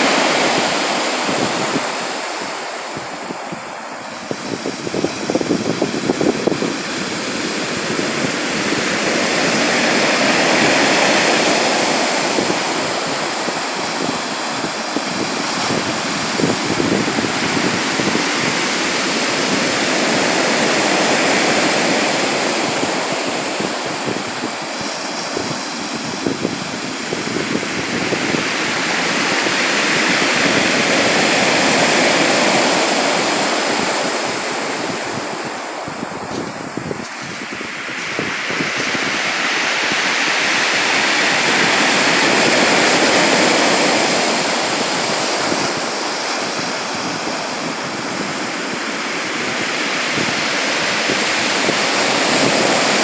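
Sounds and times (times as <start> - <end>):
sea waves surging: 0.0 - 53.0.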